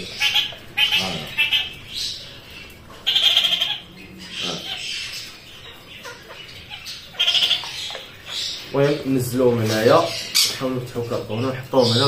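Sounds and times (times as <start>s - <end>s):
parrot squawking: 0.0s - 10.6s.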